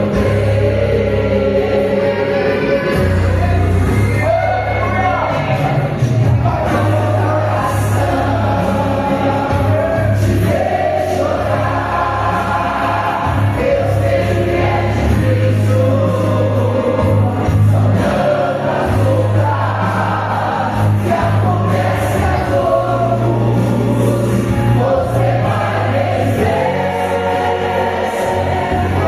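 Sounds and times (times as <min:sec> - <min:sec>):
choir singing gospel song: 0:00.0 - 0:29.0
low bass notes: 0:00.0 - 0:29.0.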